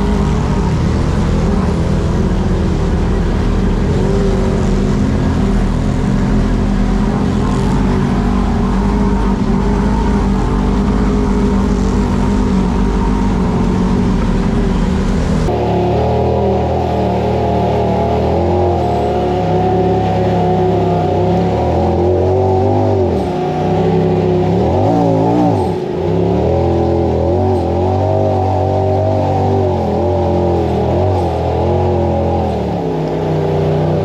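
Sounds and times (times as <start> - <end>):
utility vehicle engine revving: 0.0 - 34.0.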